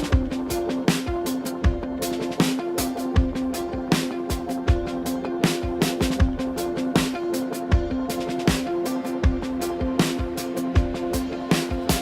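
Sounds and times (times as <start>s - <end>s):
driving drum beat: 0.0s - 12.0s.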